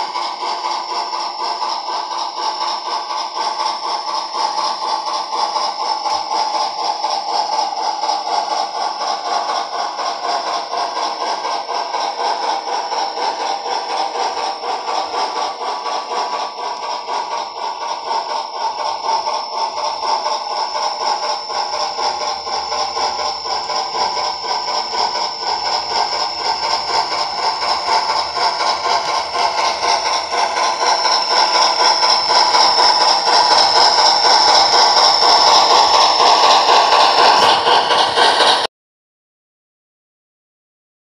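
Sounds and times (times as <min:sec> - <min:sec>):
steam locomotive chuffs from small speaker: 0:00.0 - 0:38.7.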